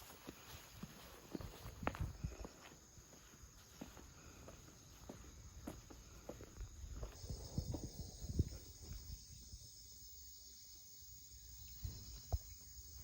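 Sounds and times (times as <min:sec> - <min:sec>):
insects chirring: 0:00.7 - 0:13.0.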